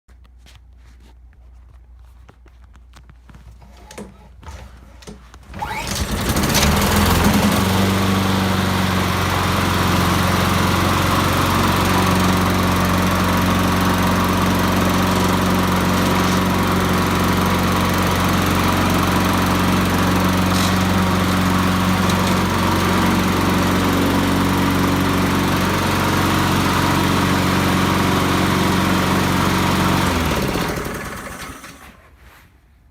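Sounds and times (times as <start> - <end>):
lawnmower engine running: 5.5 - 32.0.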